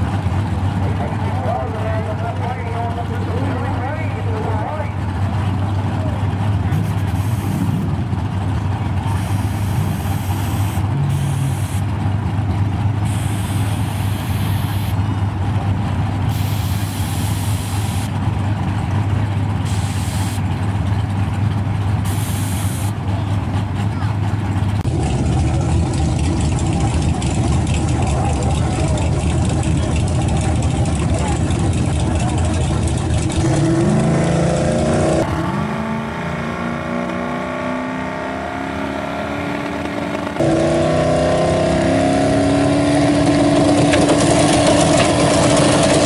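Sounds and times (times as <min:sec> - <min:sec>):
low engine drone: 0:00.0 - 0:46.0.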